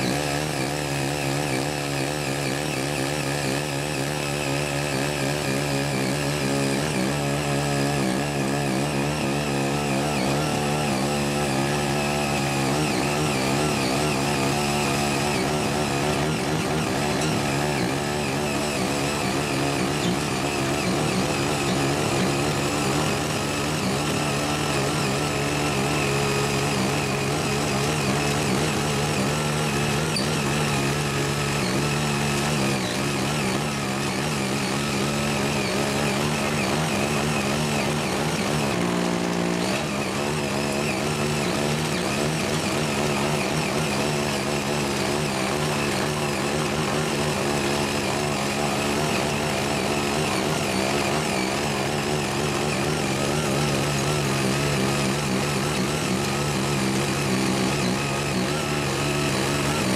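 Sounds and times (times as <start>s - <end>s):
rotor churning soil: 0.0s - 59.9s
small tiller engine running: 0.0s - 59.9s.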